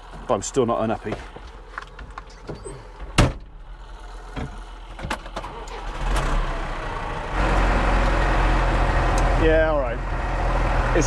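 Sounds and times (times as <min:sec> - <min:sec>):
tractor diesel engine: 0:00.0 - 0:11.0.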